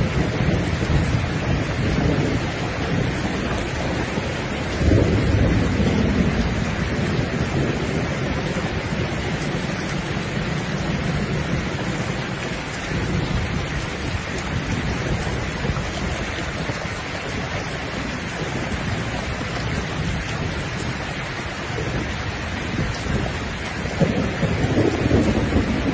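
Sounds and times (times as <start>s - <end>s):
heavy rain: 0.0s - 25.9s
low rumble of thunder: 0.0s - 25.9s.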